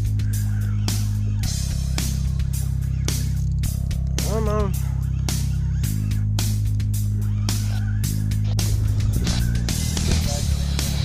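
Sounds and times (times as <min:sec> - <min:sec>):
background rock music: 0:00.0 - 0:11.0.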